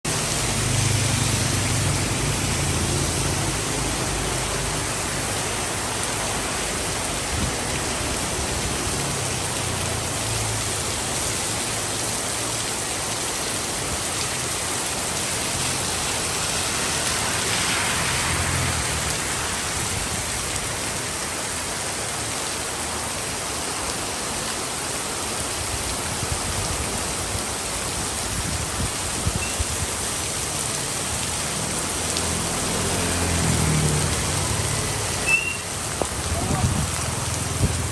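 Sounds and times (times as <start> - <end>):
low rumble of traffic: 0.1 - 37.9
rain pouring onto street: 0.1 - 37.9
vehicle swishing past on wet road: 0.1 - 37.9.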